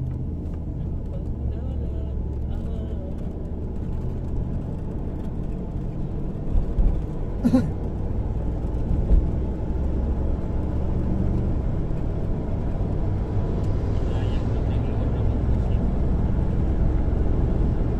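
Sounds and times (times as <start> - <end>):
engine droning: 0.0 - 17.9.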